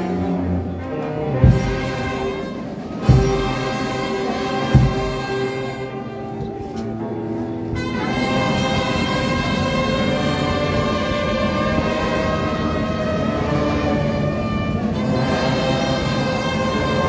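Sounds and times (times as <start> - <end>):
procession music held chords: 0.0 - 17.0.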